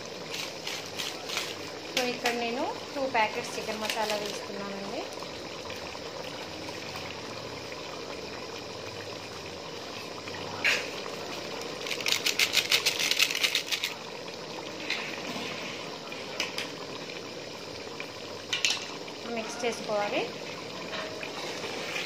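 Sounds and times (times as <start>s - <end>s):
curry bubbling in a pot: 0.0s - 22.0s.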